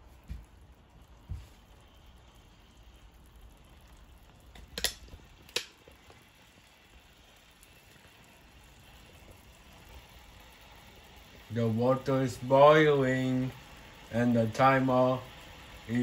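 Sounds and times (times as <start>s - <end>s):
water boiling in a saucepan: 0.0s - 16.0s.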